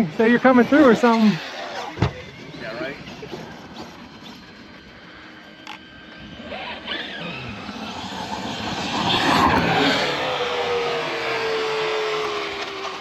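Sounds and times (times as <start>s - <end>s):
electric rc car motor whine: 0.2s - 13.0s.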